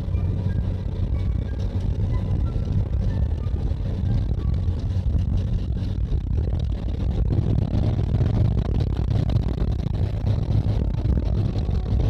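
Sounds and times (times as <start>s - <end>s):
van engine and tyre noise: 0.0s - 12.0s.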